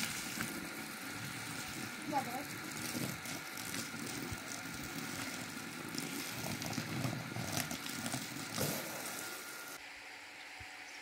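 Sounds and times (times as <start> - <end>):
brush scrubbing wet surface: 0.0 - 9.8
hose water splashing on linoleum: 0.0 - 9.8.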